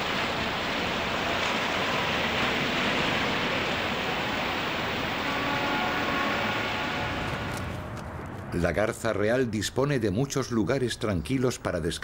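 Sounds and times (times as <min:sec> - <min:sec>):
industrial and traffic noise: 0:00.0 - 0:11.8.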